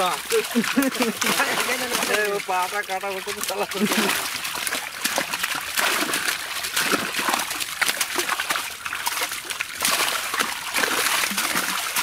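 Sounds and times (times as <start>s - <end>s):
fish flapping and splashing: 0.0s - 12.0s.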